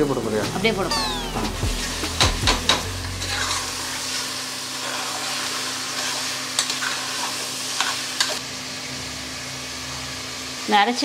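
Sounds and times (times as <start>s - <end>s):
chicken sizzling in hot oil: 0.3s - 11.0s.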